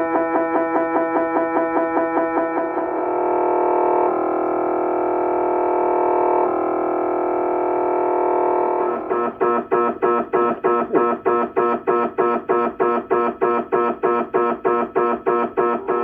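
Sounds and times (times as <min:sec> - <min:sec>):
mri scanner buzzing: 0:00.0 - 0:16.0
mri scanner pulsed beeping: 0:00.0 - 0:16.0.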